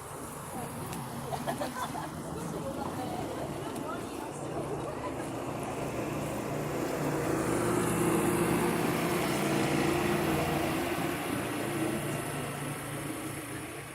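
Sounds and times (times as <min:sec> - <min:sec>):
vehicle engine humming: 0:00.0 - 0:13.9.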